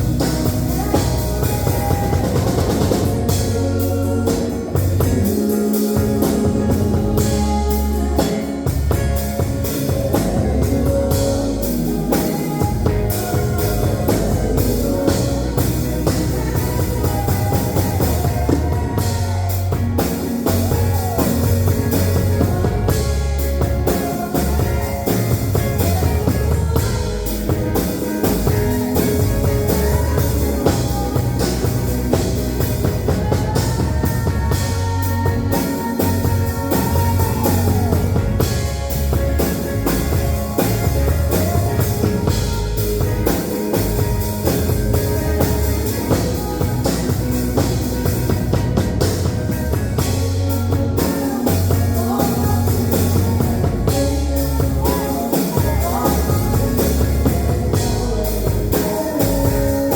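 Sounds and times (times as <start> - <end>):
bending lead guitar line: 0.0 - 59.9
rock band playing: 0.0 - 59.9.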